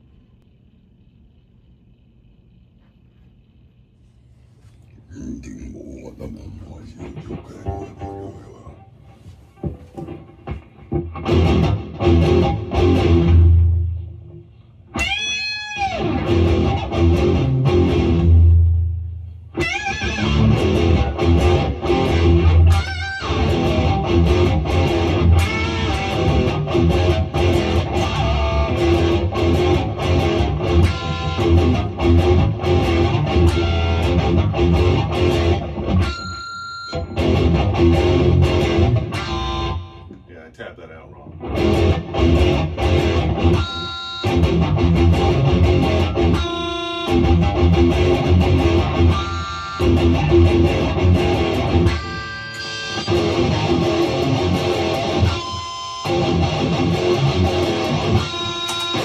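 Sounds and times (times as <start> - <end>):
distorted electric guitar riff: 5.1 - 18.9, 19.5 - 40.3, 41.2 - 59.0.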